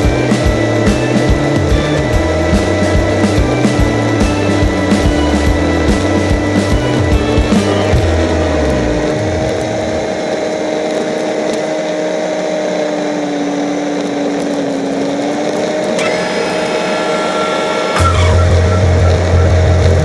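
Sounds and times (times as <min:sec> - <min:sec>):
atv engine whine: 0:00.0 - 0:20.0.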